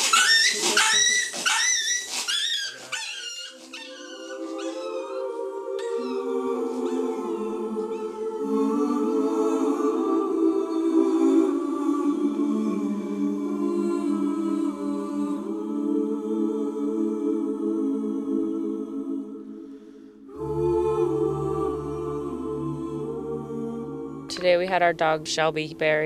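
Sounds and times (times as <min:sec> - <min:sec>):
choir singing a cappella: 0:03.2 - 0:26.0.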